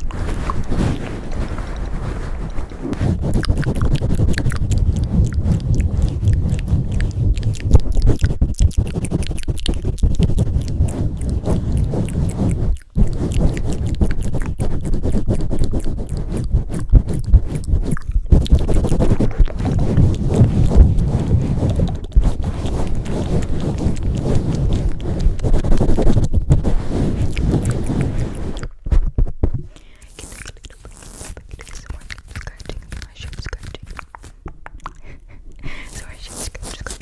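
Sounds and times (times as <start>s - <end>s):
hands rubbing over microphone: 0.0s - 34.4s, 35.8s - 37.0s.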